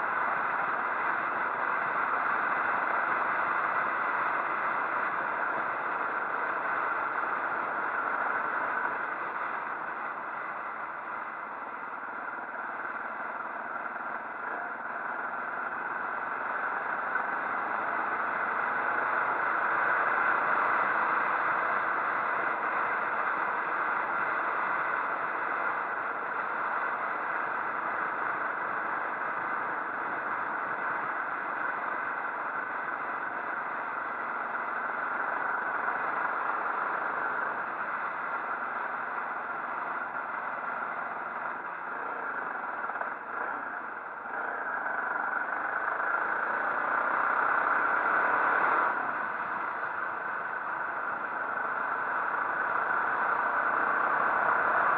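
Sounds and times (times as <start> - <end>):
wind and road noise: 0.0 - 54.9
motorcycle engine running: 0.3 - 54.9.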